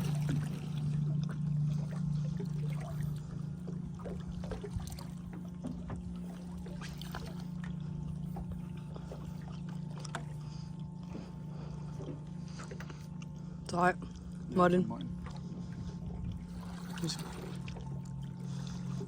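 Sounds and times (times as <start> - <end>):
boat engine low hum: 0.0 - 19.0.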